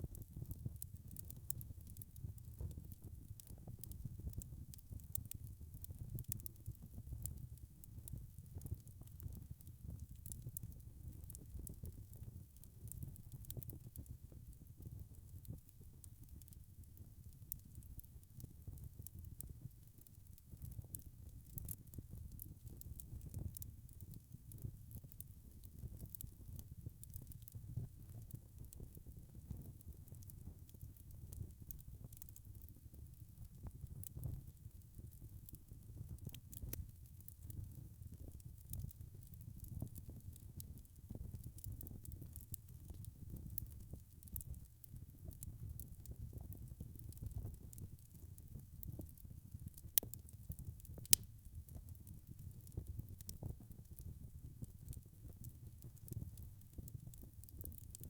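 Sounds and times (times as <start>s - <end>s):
low rumble of flames: 0.0s - 58.0s
wood fire crackling: 0.1s - 58.0s.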